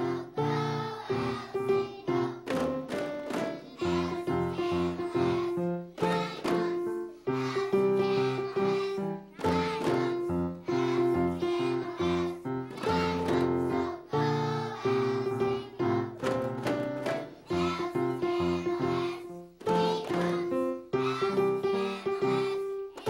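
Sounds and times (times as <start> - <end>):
children singing: 0.0 - 23.0
musical accompaniment: 0.0 - 23.0.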